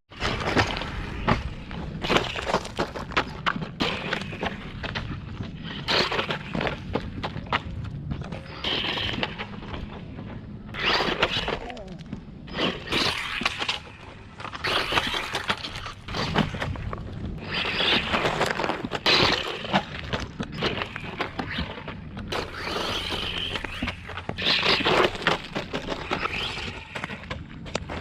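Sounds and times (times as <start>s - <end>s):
radio-controlled car tyres crunching: 0.1s - 28.0s.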